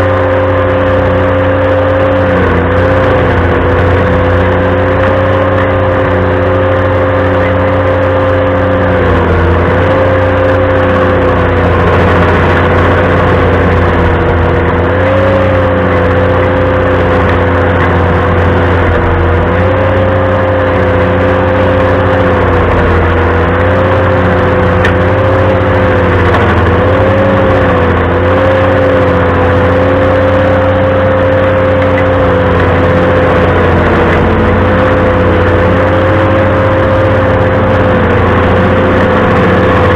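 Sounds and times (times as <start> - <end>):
stump grinder whine: 0.0 - 39.9
tractor engine hum: 0.0 - 39.9.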